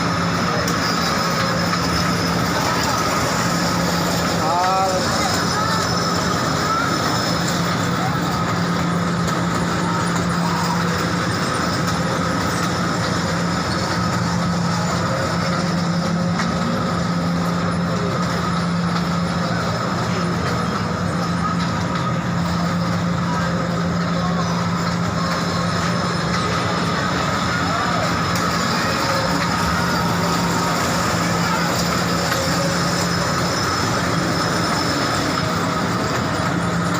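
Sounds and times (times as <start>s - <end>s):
train rumbling from on board: 0.0s - 36.9s.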